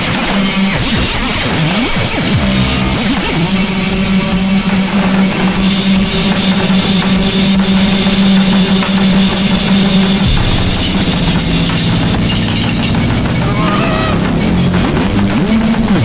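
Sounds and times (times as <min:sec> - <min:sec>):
distorted noise wall: 0:00.0 - 0:16.0
low drone: 0:02.3 - 0:15.4.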